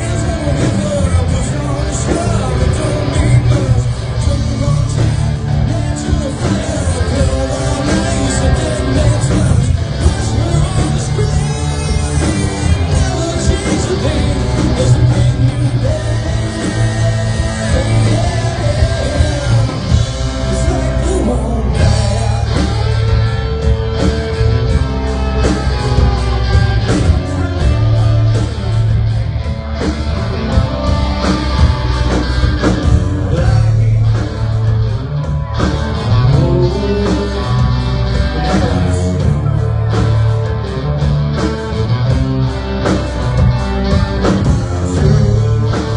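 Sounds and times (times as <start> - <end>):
person singing: 0.0 - 28.9, 29.8 - 41.9, 42.9 - 45.9
rock band playing live: 0.0 - 45.9.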